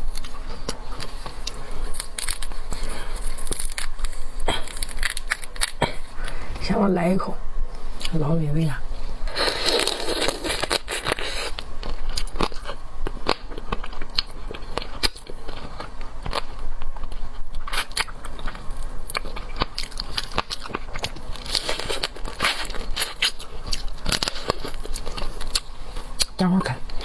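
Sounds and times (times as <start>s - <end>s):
chewing seafood wet crunches: 0.0s - 6.4s, 9.3s - 27.0s.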